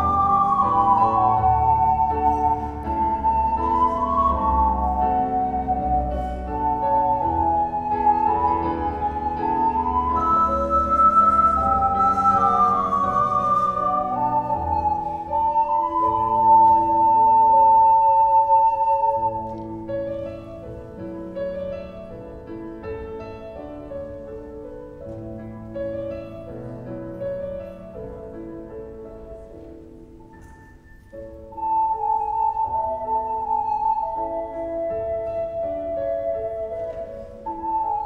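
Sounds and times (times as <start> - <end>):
ocarina melody: 0.0 - 38.0
piano-like instrumental accompaniment: 0.0 - 38.0.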